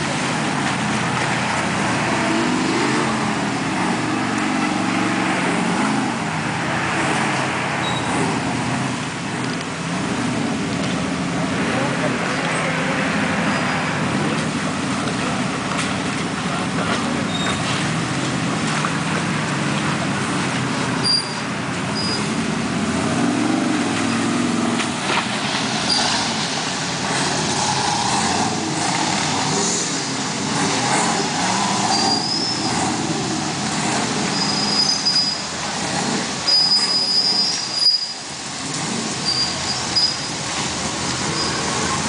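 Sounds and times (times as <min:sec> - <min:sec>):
off-road buggy engines revving: 0:00.0 - 0:42.0.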